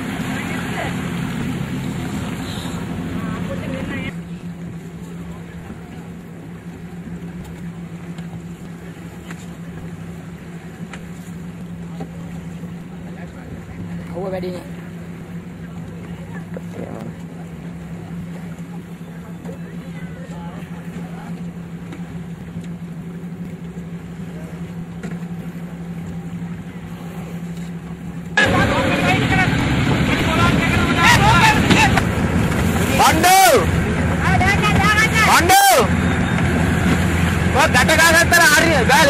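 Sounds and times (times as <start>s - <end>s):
boat engine humming: 0.0s - 39.0s
outboard motor droning: 0.0s - 39.0s
sea noise: 0.0s - 39.0s
wind: 0.0s - 39.0s.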